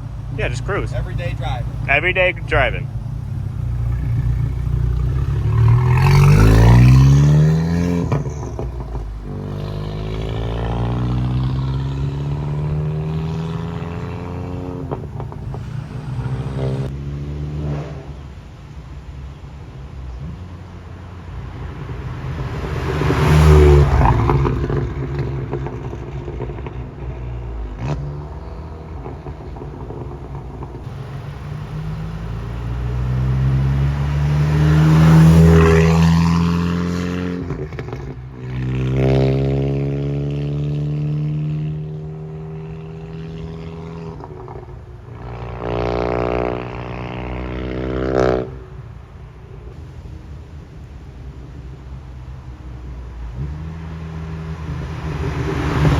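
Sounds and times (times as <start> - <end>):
car engine accelerating: 0.0 - 18.8, 20.1 - 55.9.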